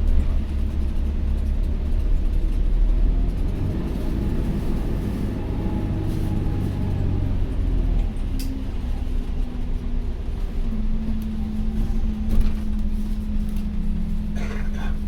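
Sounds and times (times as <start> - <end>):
bus drivetrain and road rumble: 0.0 - 15.0.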